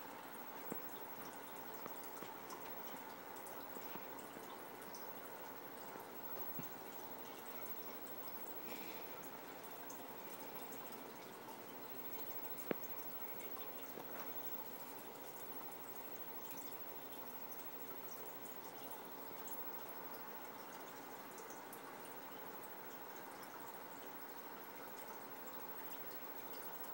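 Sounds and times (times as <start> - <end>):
aquarium water trickling: 0.0 - 26.9
faint tiny ticks: 0.0 - 26.9.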